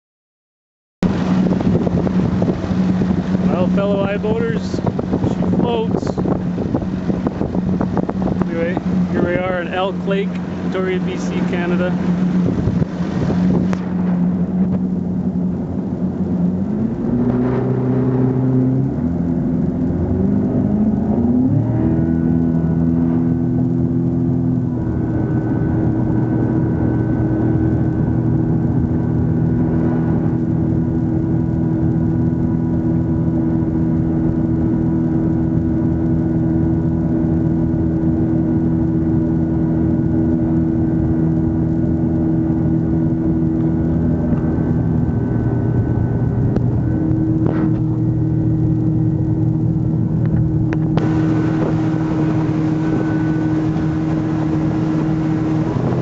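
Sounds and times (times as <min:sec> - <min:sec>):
outboard motor running: 0:01.0 - 0:56.0
wind and water rushing: 0:01.0 - 0:56.0.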